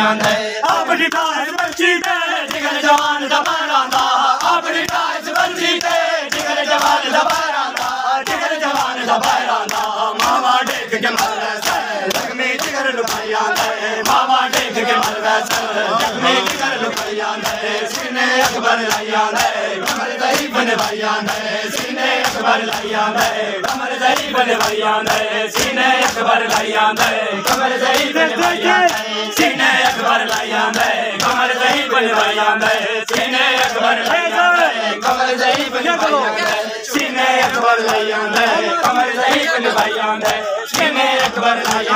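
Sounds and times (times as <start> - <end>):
men chanting in unison: 0.0 - 41.9
hands slapping chests: 0.2 - 41.9.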